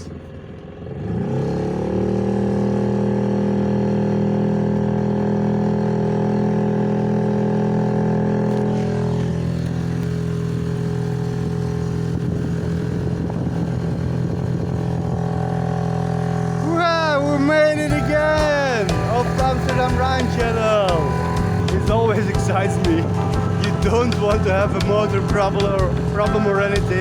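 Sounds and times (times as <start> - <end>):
boat motor at full throttle: 0.0 - 27.0.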